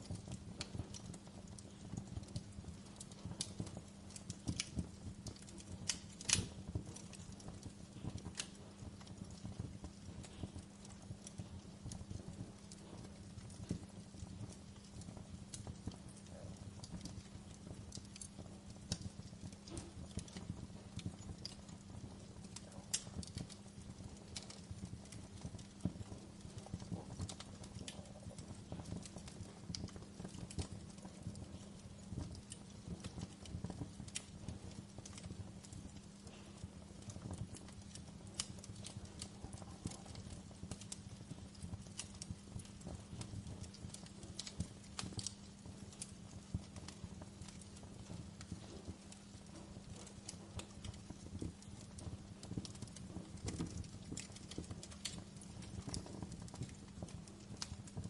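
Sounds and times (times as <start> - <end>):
low fire rumble: 0.0 - 58.0
wood fire crackling and popping: 0.0 - 58.0.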